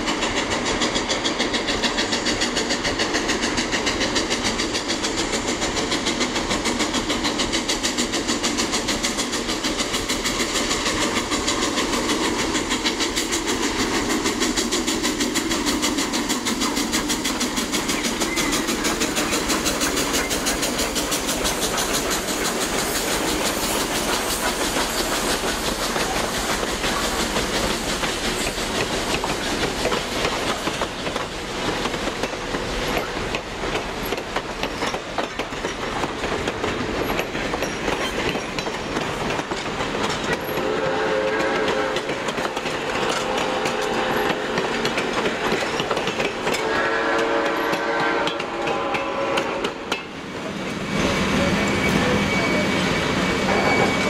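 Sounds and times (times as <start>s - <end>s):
steam locomotives chuffing: 0.0s - 54.0s
train wheels clicking on rail joints: 0.0s - 54.0s.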